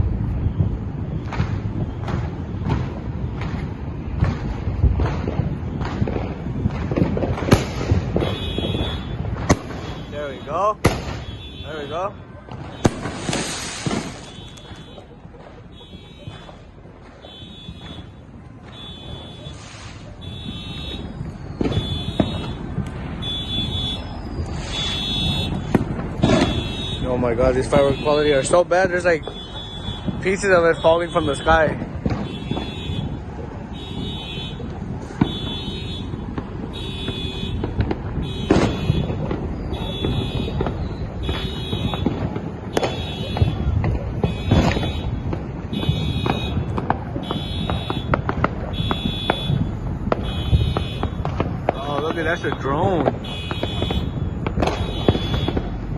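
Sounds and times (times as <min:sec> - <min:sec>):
firework bangs: 0:00.0 - 0:55.9
rumble of fireworks: 0:00.0 - 0:55.9.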